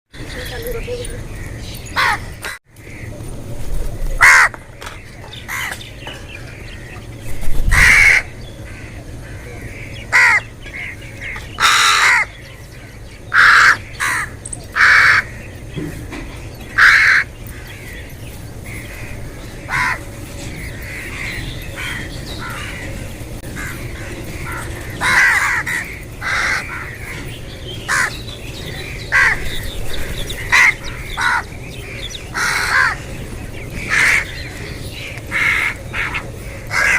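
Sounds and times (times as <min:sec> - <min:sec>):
low background hum: 0:00.2 - 0:36.9
crows cawing: 0:01.3 - 0:03.2, 0:04.2 - 0:36.9.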